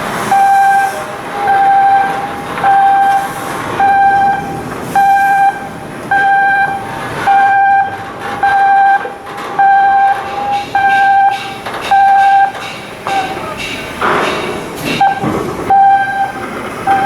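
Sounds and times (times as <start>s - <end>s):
machinery noise: 0.0s - 17.0s
electronic alarm beeping: 0.3s - 13.5s, 15.0s - 17.0s.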